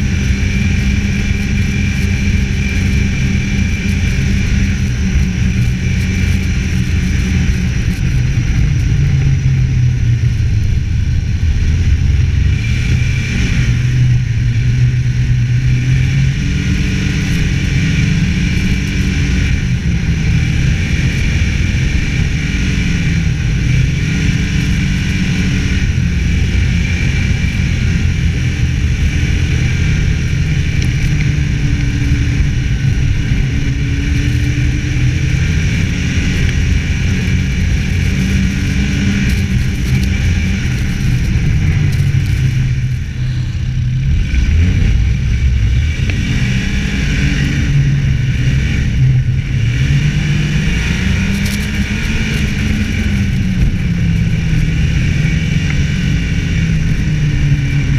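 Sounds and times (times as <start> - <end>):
snowmobile engine running: 0.0 - 57.9.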